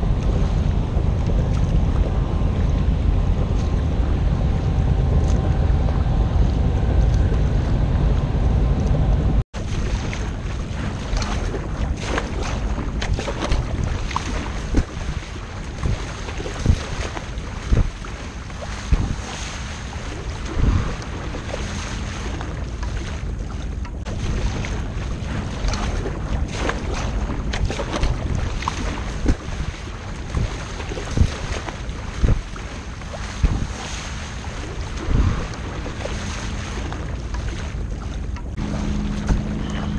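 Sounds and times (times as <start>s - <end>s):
paddle blades splashing: 0.0s - 39.9s
water rushing off bow: 0.0s - 39.9s
wind buffeting microphone: 0.0s - 39.9s.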